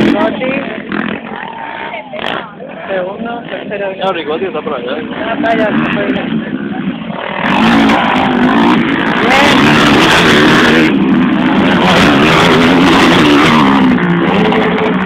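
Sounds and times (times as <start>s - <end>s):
quad engines revving: 0.0s - 15.0s.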